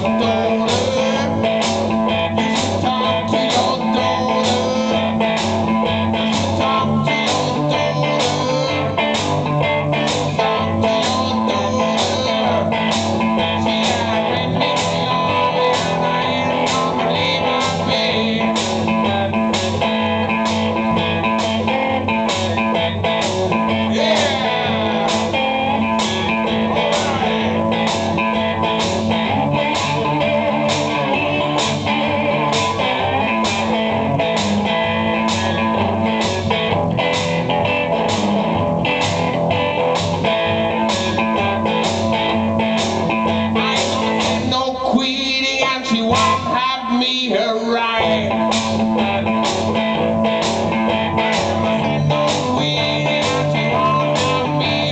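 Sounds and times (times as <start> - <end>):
live blues guitar over a steady beat: 0.0 - 54.9.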